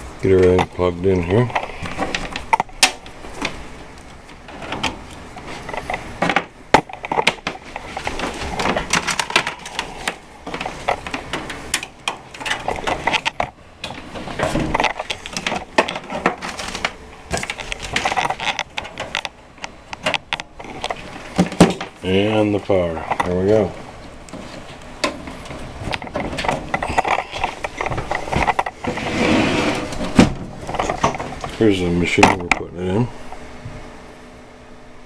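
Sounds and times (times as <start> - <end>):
cables and plugs clicking and rattling: 0.2 - 33.5.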